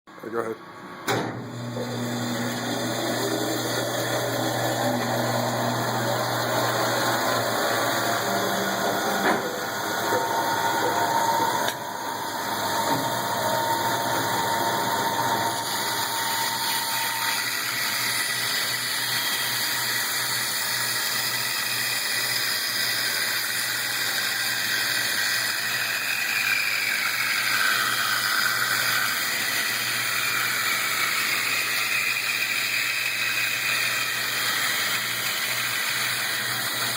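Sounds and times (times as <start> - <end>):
band saw running: 1.1 - 36.9.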